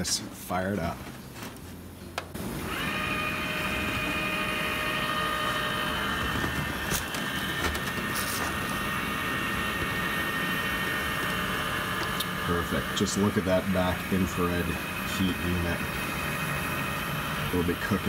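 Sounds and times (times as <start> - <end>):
gas flame rushing: 2.3 - 18.0.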